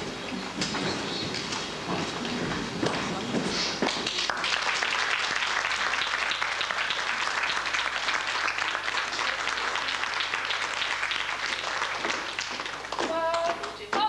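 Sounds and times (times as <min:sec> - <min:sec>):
audience clapping: 0:02.1 - 0:14.0.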